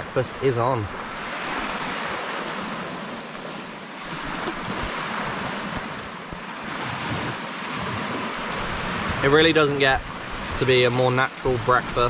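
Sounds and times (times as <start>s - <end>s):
surf washing onto beach: 0.0s - 12.0s.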